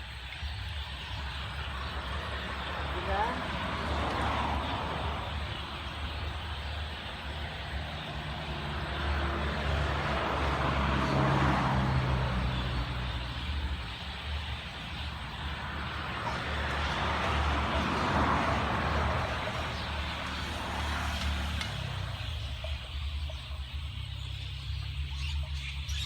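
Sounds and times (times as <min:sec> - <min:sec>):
vehicle engine rumble passing: 0:00.0 - 0:26.0.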